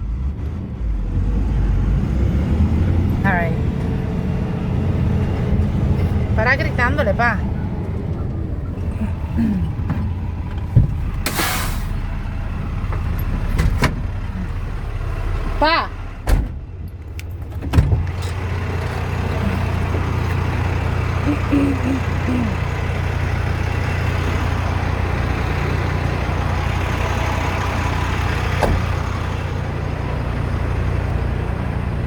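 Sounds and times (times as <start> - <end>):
engine hum and road noise: 0.0 - 32.0.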